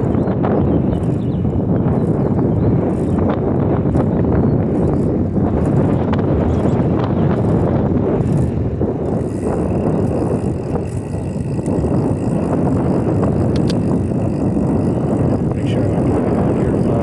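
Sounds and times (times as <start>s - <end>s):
bike tyres rolling over pavement: 0.0s - 17.0s
wind on microphone: 0.0s - 17.0s.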